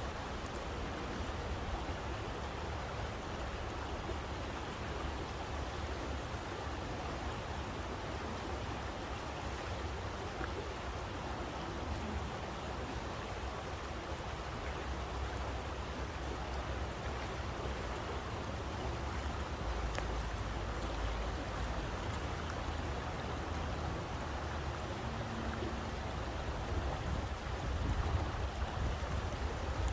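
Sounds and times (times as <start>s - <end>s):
stream water rushing: 0.0s - 29.9s.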